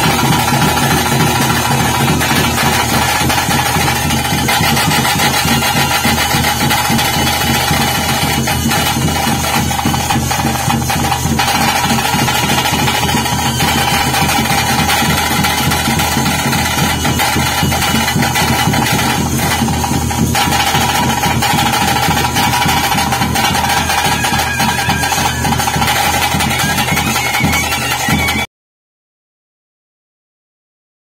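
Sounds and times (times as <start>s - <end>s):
steady high tone: 0.0s - 28.4s
drum ensemble playing fast beats: 0.0s - 28.5s.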